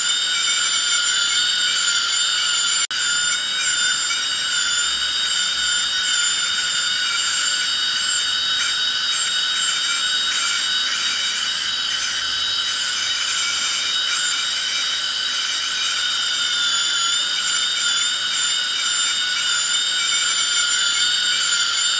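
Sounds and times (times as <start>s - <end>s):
dental drill whining: 0.0s - 21.9s.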